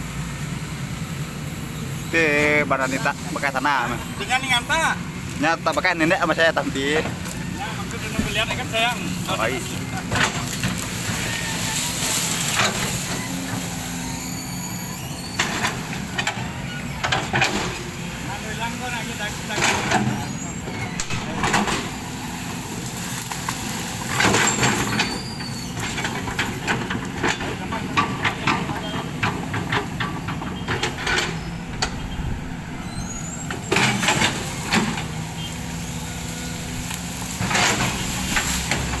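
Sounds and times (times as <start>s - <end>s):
heavy machine engine running: 0.0s - 39.0s.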